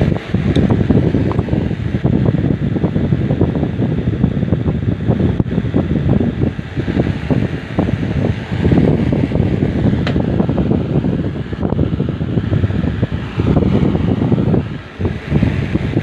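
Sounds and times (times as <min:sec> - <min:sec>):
fan noise: 0:00.0 - 0:16.0
wind buffeting microphone: 0:00.0 - 0:16.0.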